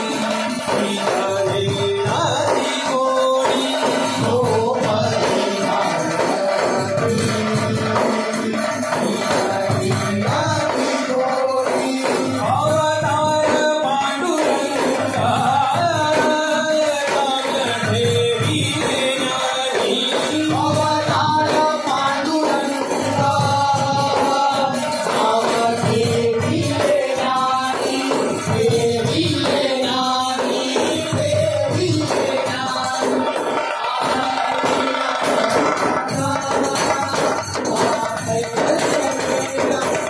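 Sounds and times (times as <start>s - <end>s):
group singing: 0.0s - 40.0s
jingling hand percussion: 0.0s - 40.0s
man singing lead: 0.0s - 40.0s
barrel drums beating: 3.6s - 40.0s.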